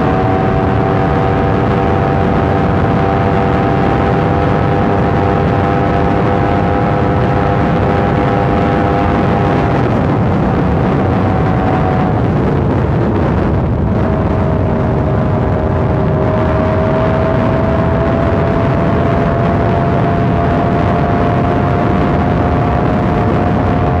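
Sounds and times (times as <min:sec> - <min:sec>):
motorcycle engine cruising: 0:00.0 - 0:24.0
road and wind noise: 0:00.0 - 0:24.0.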